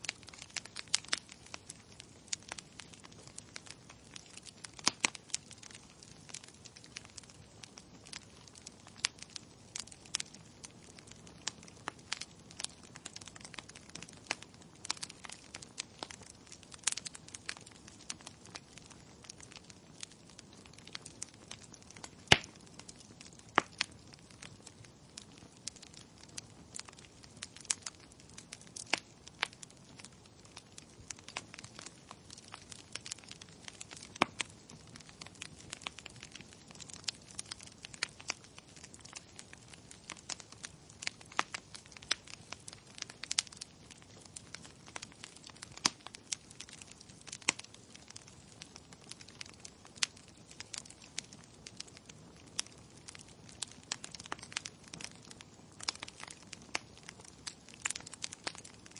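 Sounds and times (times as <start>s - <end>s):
faint steady hiss: 0.0s - 58.9s
wood fire popping and snapping: 0.0s - 58.9s.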